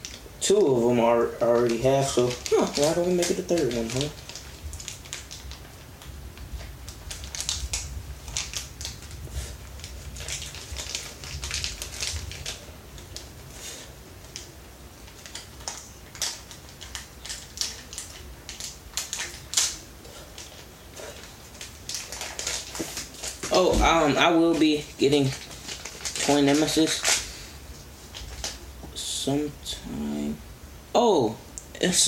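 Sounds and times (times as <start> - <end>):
plastic packaging crinkling: 0.0 - 28.7.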